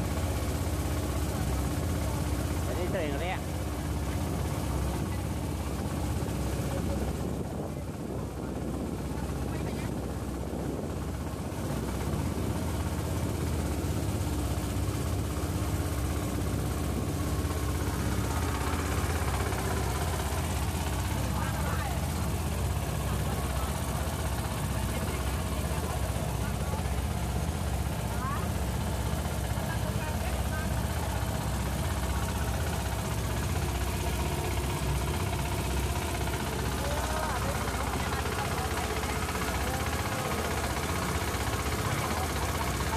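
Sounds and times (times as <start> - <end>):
boat engine running: 0.0 - 42.9
water churning in wake: 0.0 - 42.9.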